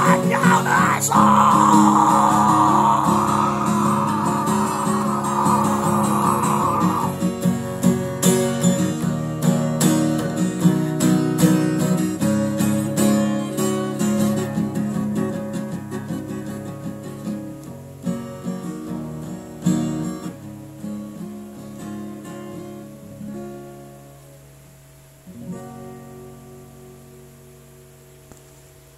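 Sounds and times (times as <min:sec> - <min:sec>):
acoustic guitar: 0:00.0 - 0:28.9.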